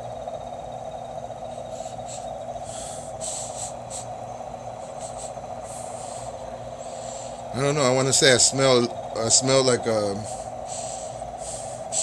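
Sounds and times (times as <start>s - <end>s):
steady drone: 0.0s - 12.0s.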